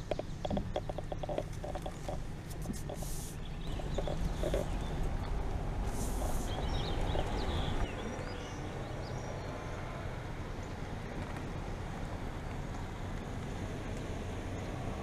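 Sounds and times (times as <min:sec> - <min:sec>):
car driving on paved road: 0:00.0 - 0:15.0.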